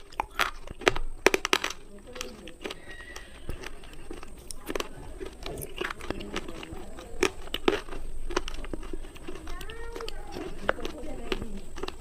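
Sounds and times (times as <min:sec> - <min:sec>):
pencil being chewed crunching: 0:00.0 - 0:12.0.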